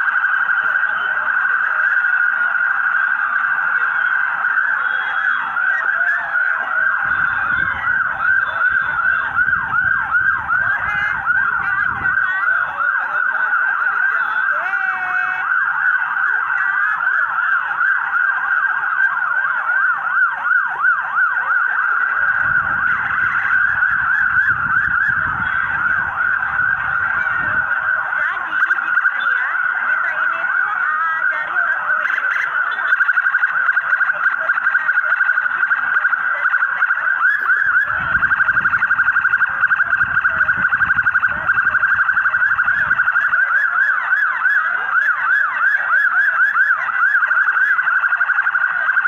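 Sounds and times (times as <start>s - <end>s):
sirens yelping: 0.0s - 49.0s.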